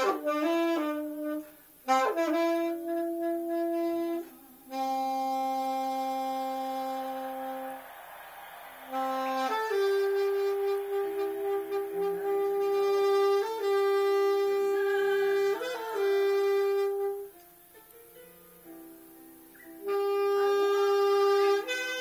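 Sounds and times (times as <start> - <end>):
saxophone playing long notes: 0.0 - 18.0, 19.7 - 22.0.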